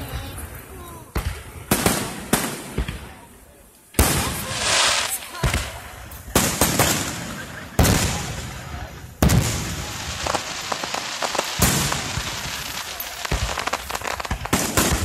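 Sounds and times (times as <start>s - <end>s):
fireworks crackling: 0.0s - 15.0s
fireworks booming: 0.4s - 15.0s.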